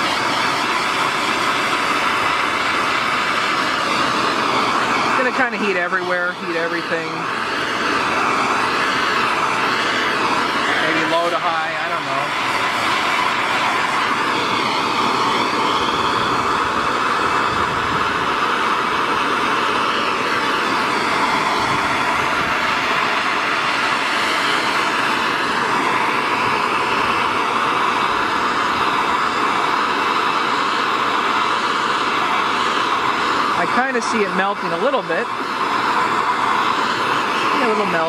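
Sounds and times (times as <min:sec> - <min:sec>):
gas torch flame hissing: 0:00.0 - 0:38.0.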